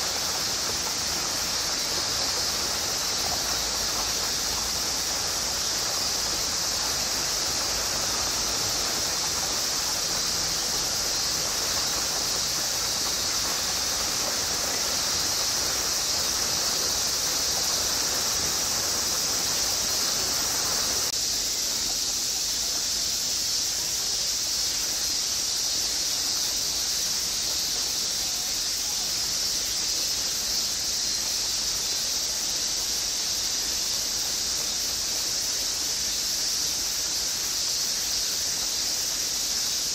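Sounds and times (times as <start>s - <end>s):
cicadas droning in chorus: 0.0s - 39.9s
low hiss: 0.0s - 39.9s.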